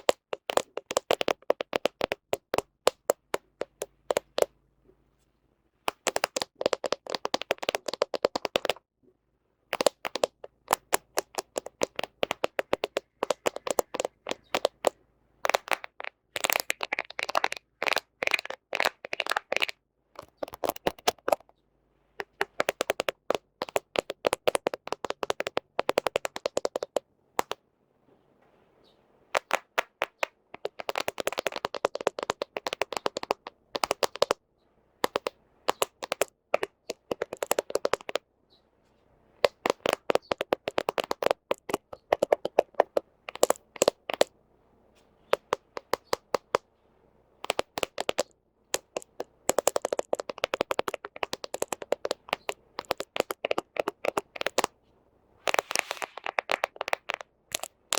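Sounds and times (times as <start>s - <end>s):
fingernails tapping on phone lens: 0.0s - 4.5s, 5.9s - 8.8s, 9.7s - 21.6s, 22.2s - 27.6s, 29.3s - 34.4s, 35.0s - 38.2s, 39.4s - 44.3s, 45.0s - 46.7s, 47.4s - 54.7s, 55.5s - 57.9s.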